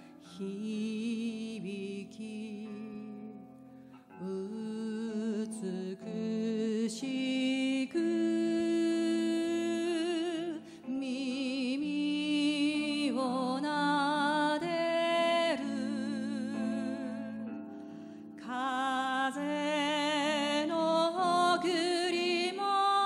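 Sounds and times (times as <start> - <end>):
guitar accompaniment: 0.0 - 23.0
woman singing slow song: 0.0 - 23.0.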